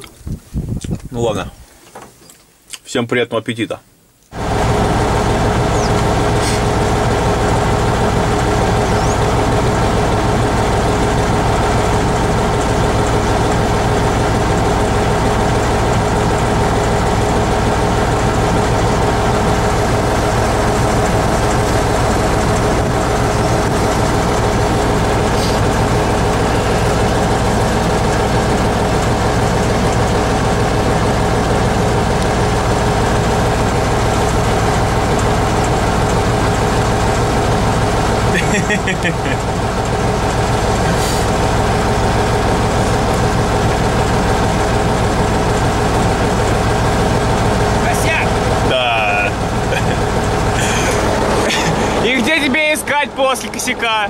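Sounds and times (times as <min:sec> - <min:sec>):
diesel engine idling: 0:04.3 - 0:54.0
engine whine: 0:04.3 - 0:54.0.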